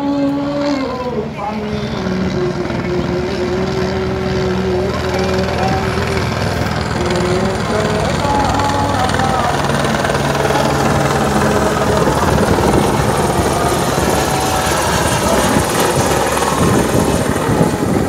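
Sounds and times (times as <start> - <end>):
helicopter rotor chopping: 0.0 - 18.0.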